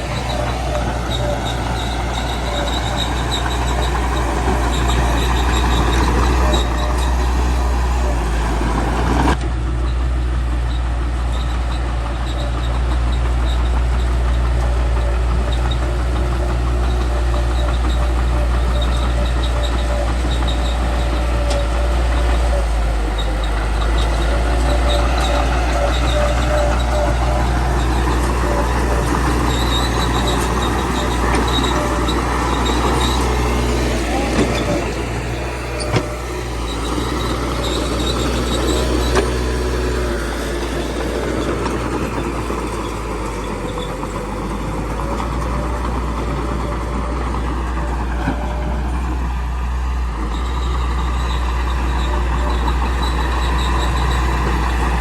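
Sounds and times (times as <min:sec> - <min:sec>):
high-pitched squeak: 0:00.0 - 0:08.8, 0:11.4 - 0:48.6, 0:50.2 - 0:55.0
bulldozer diesel engine: 0:00.0 - 0:55.0.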